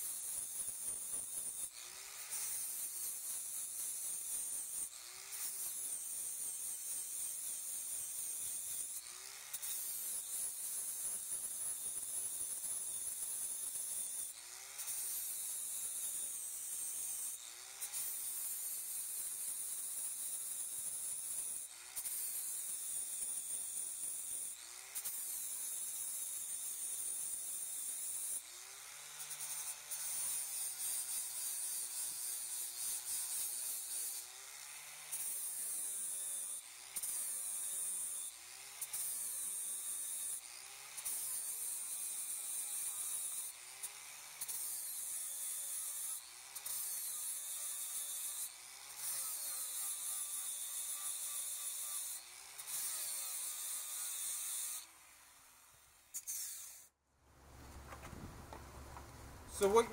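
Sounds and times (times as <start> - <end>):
angle grinder grinding steel: 0.0 - 56.9, 57.7 - 59.9.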